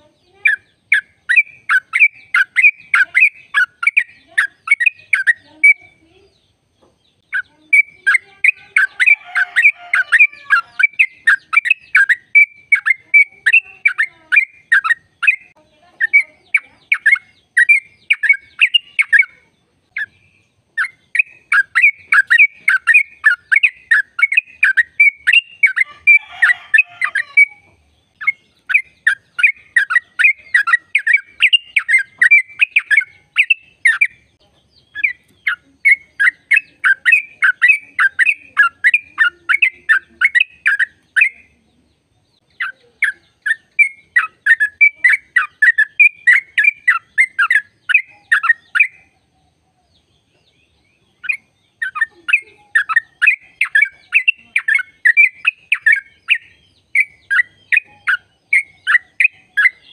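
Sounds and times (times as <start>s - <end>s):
bird chirping song: 0.0s - 59.9s.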